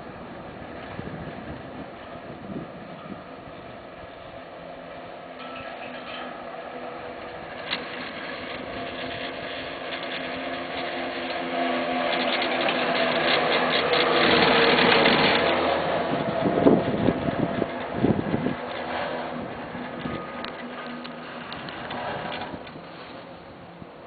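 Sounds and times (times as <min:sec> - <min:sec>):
chairlift rope rattling hum: 0:00.0 - 0:24.0.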